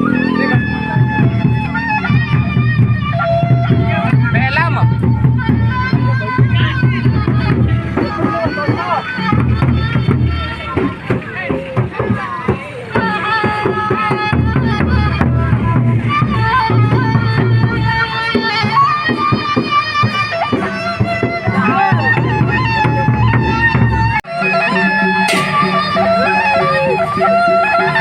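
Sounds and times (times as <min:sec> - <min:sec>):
large drums beating: 0:00.0 - 0:26.5
reedy wind melody: 0:00.0 - 0:28.0.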